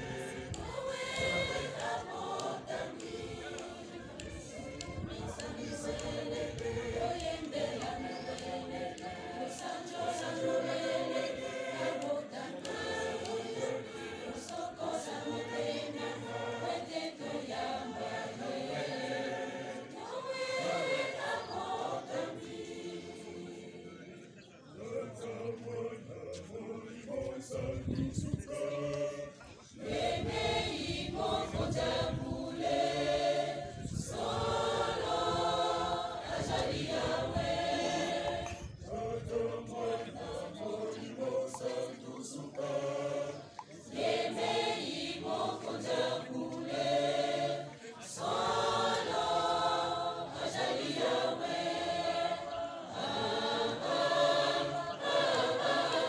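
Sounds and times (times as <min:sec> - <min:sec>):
choir singing without instruments: 0:00.0 - 0:56.0.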